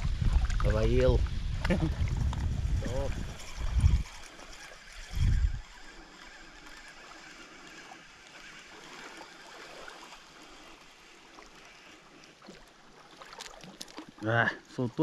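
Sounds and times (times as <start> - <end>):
ripples lapping against shore: 0.0 - 15.0.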